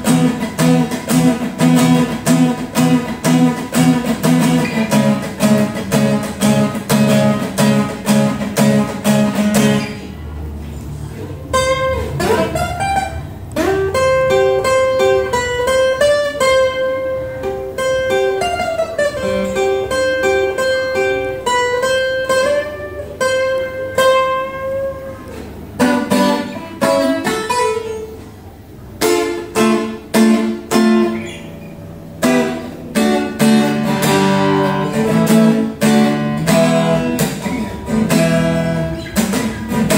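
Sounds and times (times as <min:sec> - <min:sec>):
acoustic guitar playing: 0:00.0 - 0:39.9.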